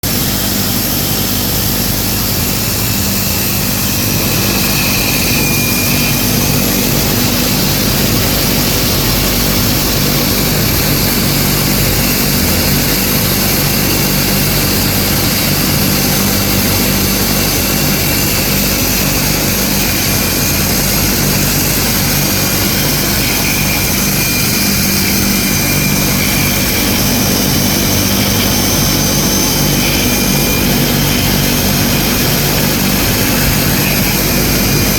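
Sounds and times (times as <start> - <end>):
circular saw cutting plywood: 0.0 - 34.9.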